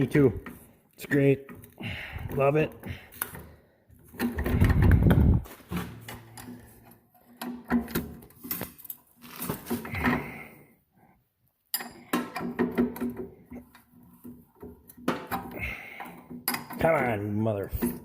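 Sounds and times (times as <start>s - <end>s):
tools and metal parts clattering: 0.0s - 10.5s, 11.6s - 18.0s.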